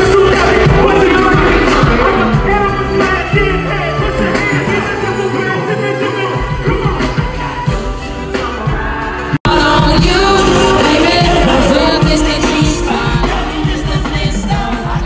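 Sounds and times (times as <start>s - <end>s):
live band with singer: 0.0s - 15.0s.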